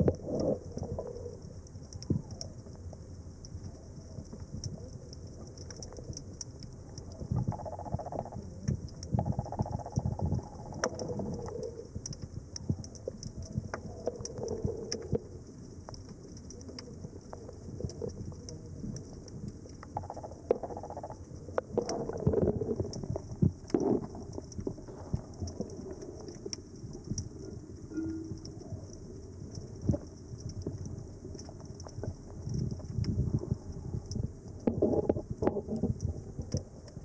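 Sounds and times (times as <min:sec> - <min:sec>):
muffled underwater bubbling: 0:00.0 - 0:37.0.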